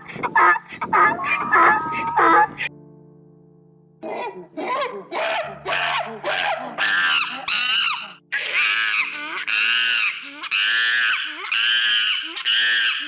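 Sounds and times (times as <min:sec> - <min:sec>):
animal squealing calls: 0:00.0 - 0:02.7, 0:04.1 - 0:13.0.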